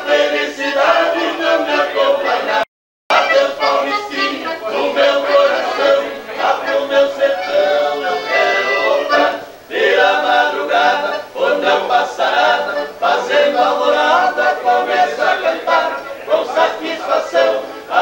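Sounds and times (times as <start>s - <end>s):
accordion playing folk song: 0.0s - 18.0s
men singing together: 0.0s - 18.0s.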